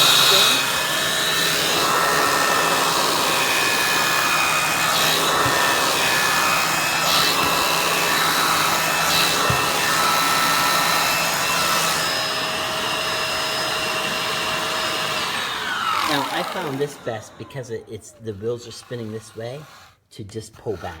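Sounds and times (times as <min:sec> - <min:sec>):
vacuum tool swishing: 0:00.0 - 0:17.6
vacuum cleaner running: 0:00.0 - 0:19.9.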